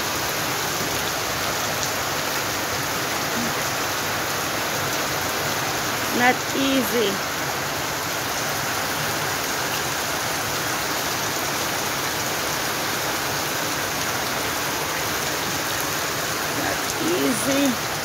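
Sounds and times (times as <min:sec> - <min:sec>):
heavy rain on road: 0:00.0 - 0:18.0.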